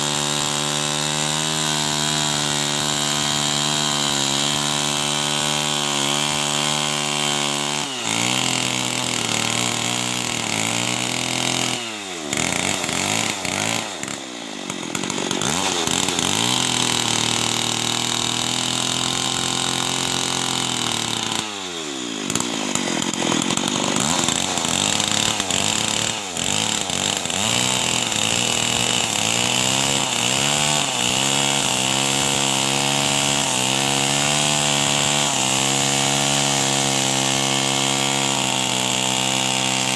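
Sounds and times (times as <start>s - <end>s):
chainsaw ripping through wood: 0.0s - 39.9s.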